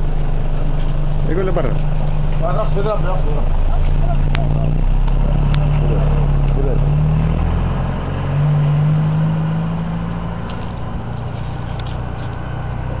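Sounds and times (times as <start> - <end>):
pickup truck engine pulling away: 0.0 - 13.0.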